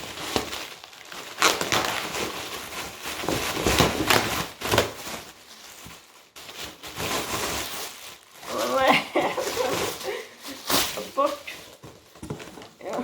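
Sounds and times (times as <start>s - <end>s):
packaging tearing and crinkling: 0.0s - 12.8s.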